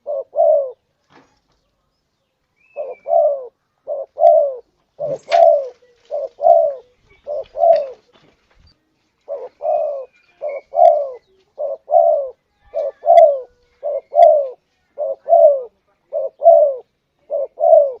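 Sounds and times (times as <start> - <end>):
dove cooing: 0.0 - 0.9, 2.6 - 8.3, 9.2 - 18.0.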